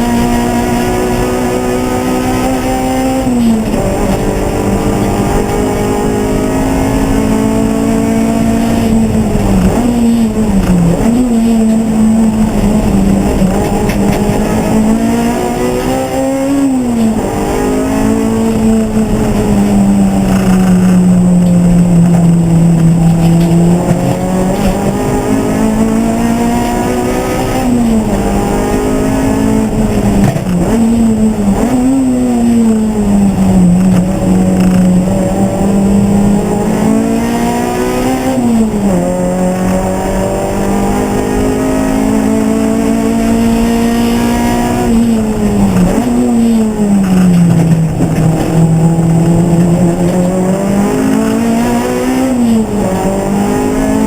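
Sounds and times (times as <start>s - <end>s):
racing car engine revving: 0.0s - 54.0s.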